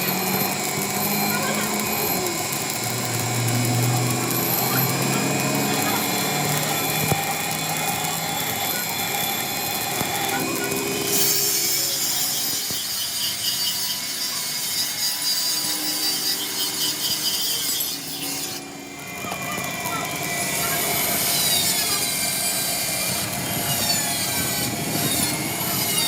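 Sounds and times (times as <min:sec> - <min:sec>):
tool scraping metal: 0:00.0 - 0:26.0.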